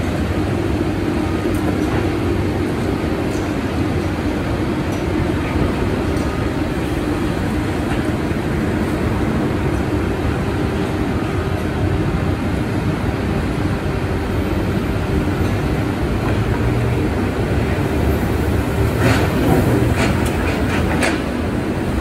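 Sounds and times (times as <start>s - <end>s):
construction machinery engines: 0.0s - 22.0s
road traffic rumble: 0.0s - 22.0s.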